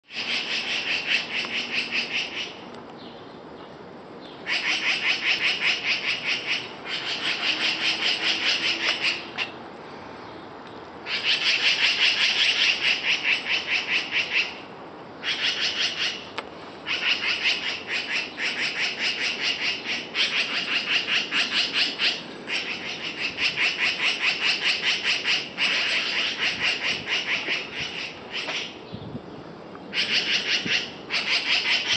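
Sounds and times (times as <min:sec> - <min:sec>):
magpies chattering: 0:00.1 - 0:02.7, 0:04.4 - 0:09.6, 0:11.0 - 0:29.0, 0:29.9 - 0:31.9.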